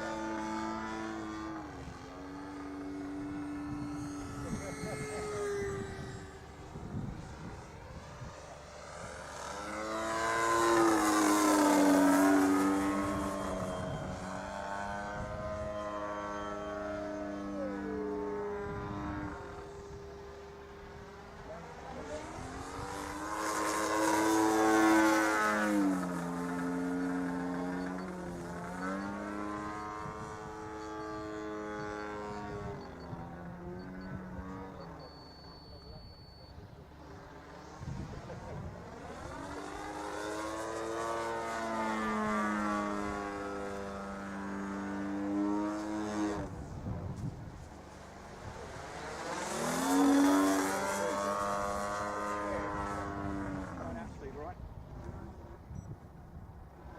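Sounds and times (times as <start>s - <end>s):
model plane engine and propeller: 0.0s - 56.9s.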